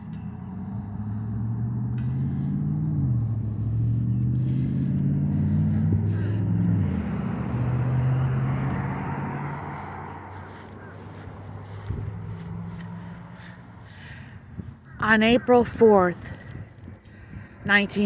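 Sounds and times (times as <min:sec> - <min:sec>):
vehicle engine pulling away: 0:00.0 - 0:14.7.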